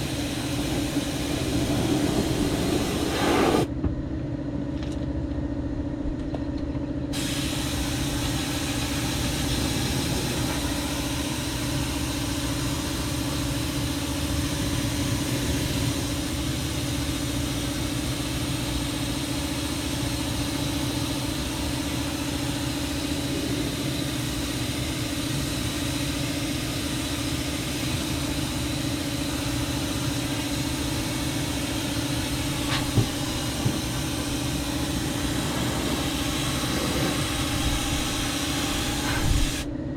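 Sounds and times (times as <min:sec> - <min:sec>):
spray gun hissing: 0:00.0 - 0:03.7, 0:07.2 - 0:39.7
machine hum: 0:00.0 - 0:04.7, 0:07.1 - 0:39.9.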